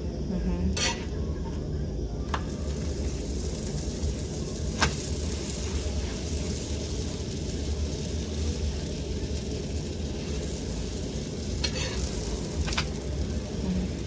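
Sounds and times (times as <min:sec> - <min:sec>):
chapati sizzling in a pan: 0:00.2 - 0:14.0.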